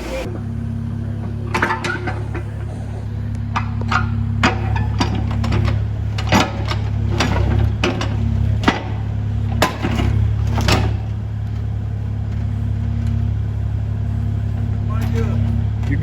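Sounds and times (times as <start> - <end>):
concrete rubble clanking: 0.0 - 16.0
diesel engine running: 0.0 - 16.0.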